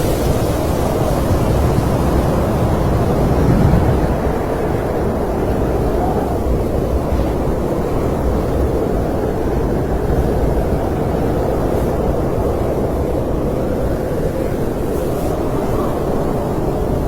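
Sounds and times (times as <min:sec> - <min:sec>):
low rushing wind: 0:00.0 - 0:17.0.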